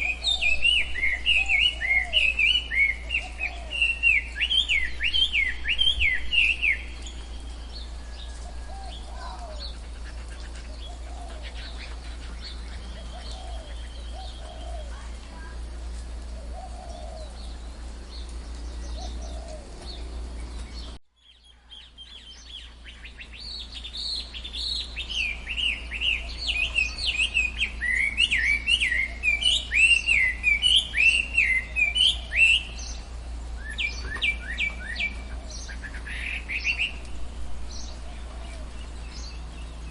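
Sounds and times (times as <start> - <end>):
rapid high bird chirps and trills: 0.0 - 37.1
soft low bird calls: 0.0 - 39.9
steady low hum: 0.0 - 39.9.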